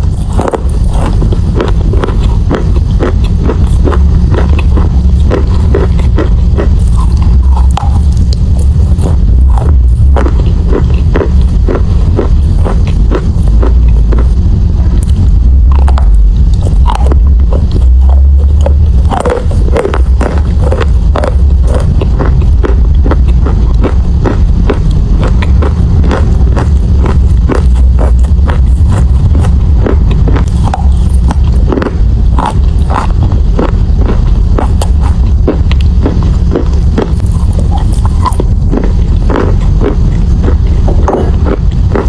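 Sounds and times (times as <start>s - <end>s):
chalk being bitten and chewed: 0.0s - 42.0s
constant deep rumble: 0.0s - 42.0s.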